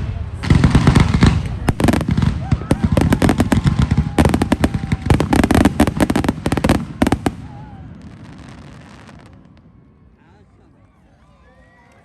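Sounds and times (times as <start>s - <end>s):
fireworks bangs: 0.0s - 9.9s.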